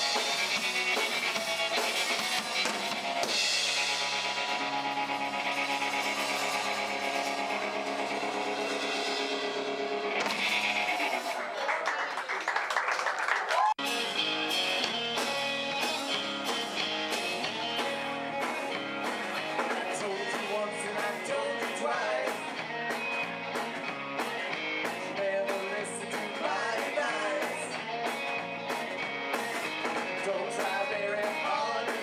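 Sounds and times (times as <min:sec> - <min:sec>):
drum kit steady beat: 0:00.0 - 0:11.4, 0:13.8 - 0:32.0
electric bass: 0:00.0 - 0:11.4, 0:13.8 - 0:32.0
electric guitar: 0:00.0 - 0:12.0, 0:13.6 - 0:32.0.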